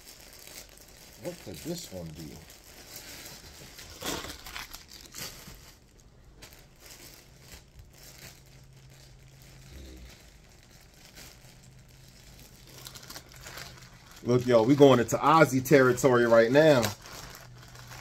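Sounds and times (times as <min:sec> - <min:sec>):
packaging bag tearing and crinkling: 0:00.0 - 0:18.0.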